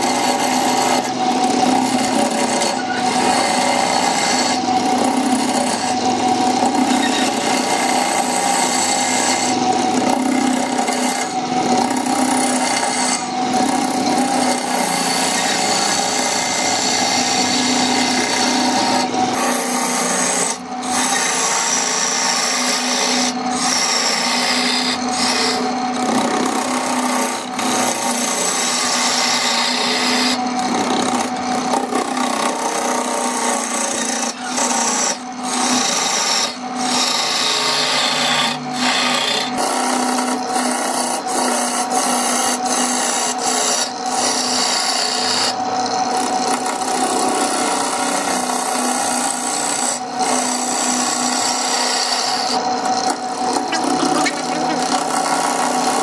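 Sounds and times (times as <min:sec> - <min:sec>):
turning tool scraping wood: 0:00.0 - 0:56.0
wood lathe humming: 0:00.0 - 0:56.0.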